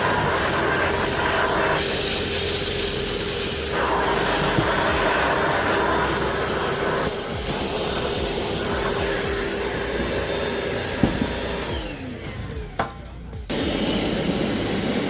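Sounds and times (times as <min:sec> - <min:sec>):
vacuum motor winding down: 0:00.0 - 0:12.8, 0:13.5 - 0:15.0
wet dry vac motor whine: 0:00.0 - 0:15.0.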